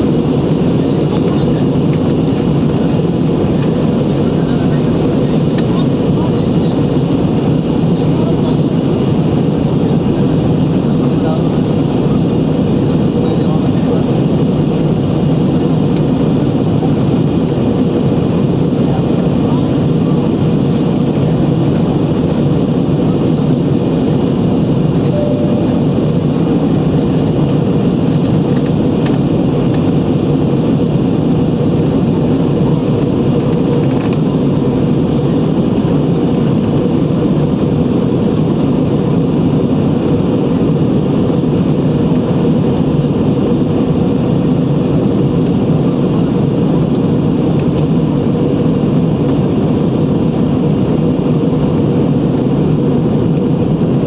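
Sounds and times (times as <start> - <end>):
aeroplane cabin engine noise: 0.0 - 54.0.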